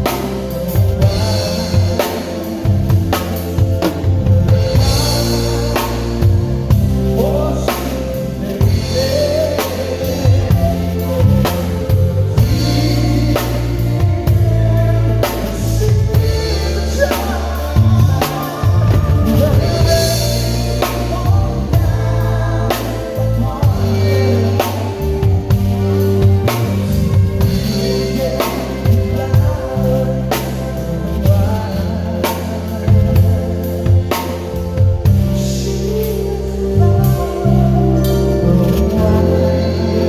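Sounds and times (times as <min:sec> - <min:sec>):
bass line: 0:00.0 - 0:40.0
drum kit playing: 0:00.0 - 0:40.0
person singing: 0:00.0 - 0:40.0.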